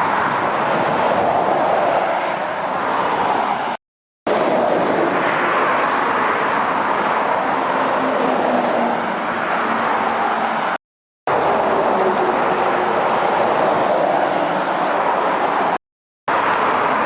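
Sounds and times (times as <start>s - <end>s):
traffic passing: 0.0s - 17.0s.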